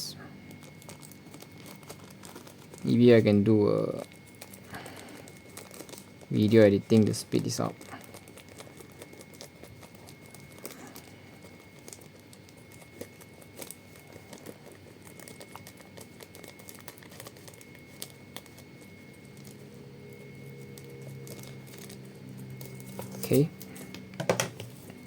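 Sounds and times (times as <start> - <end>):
card packets crinkling: 0.4 - 25.0.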